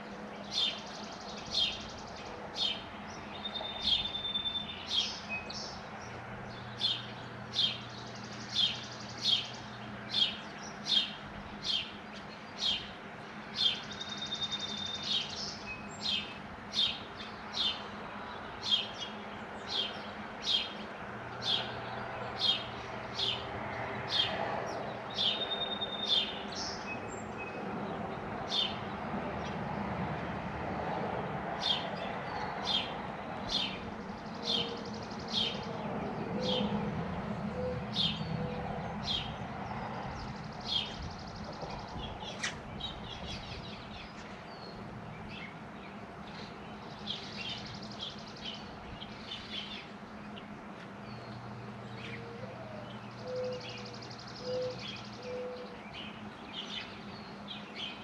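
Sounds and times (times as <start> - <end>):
songbird chirping: 0.3 - 27.6, 31.6 - 58.0.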